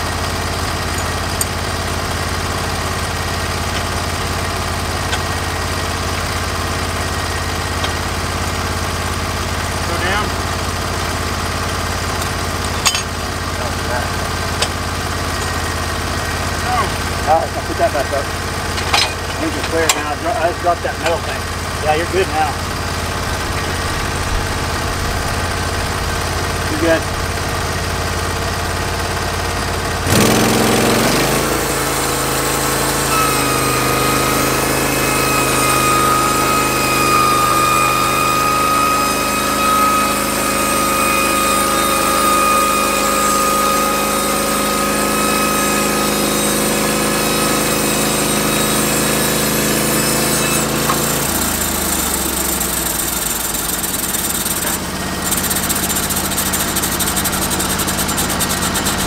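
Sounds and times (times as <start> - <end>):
band saw blade whining: 0.0 - 59.0
sawmill engine revving: 0.0 - 59.0.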